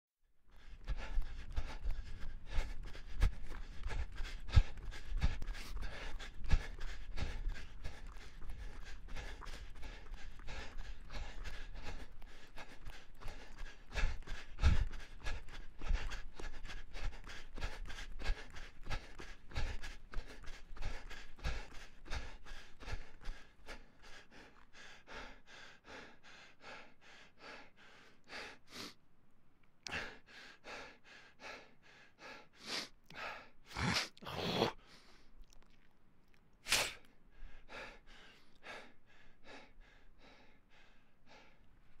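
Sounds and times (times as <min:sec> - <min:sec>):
person panting hard: 0:00.5 - 0:29.0, 0:29.9 - 0:35.3, 0:36.7 - 0:42.0.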